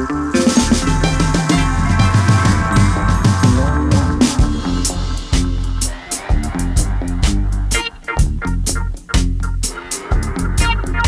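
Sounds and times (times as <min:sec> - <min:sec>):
heavy bass line: 0:00.0 - 0:11.0
drum-kit hits: 0:00.4 - 0:11.0.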